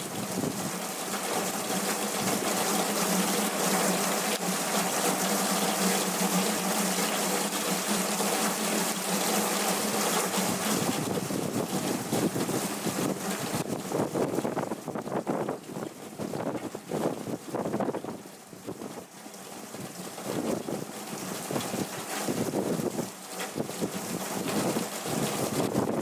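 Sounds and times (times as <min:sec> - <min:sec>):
heavy rain pouring with wind: 0:00.0 - 0:26.0.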